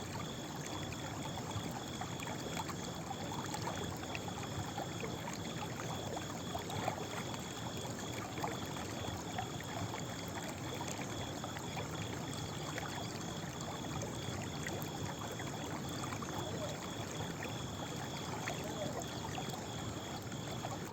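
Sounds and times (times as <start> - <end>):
water drips and ticks: 0.1 - 20.9.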